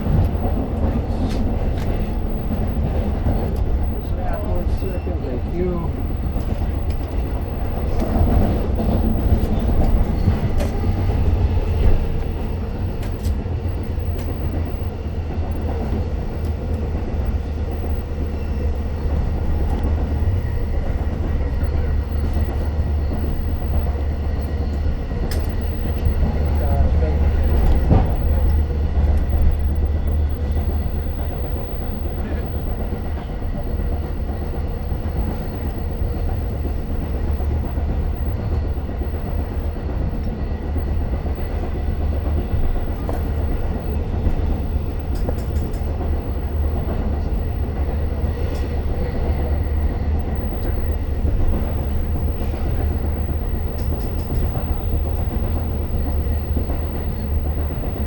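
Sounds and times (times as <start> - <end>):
train deep rumble: 0.0 - 58.0.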